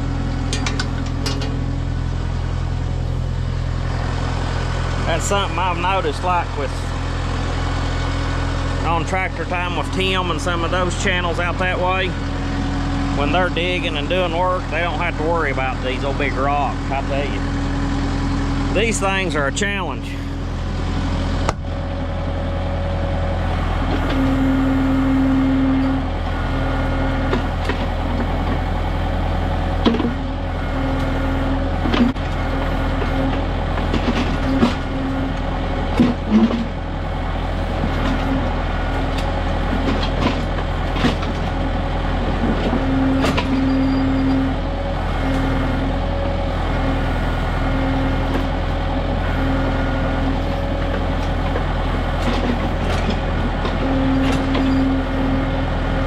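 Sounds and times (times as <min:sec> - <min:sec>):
hydraulic whine: 0:00.0 - 0:56.0
tractor diesel engine running: 0:00.0 - 0:56.0.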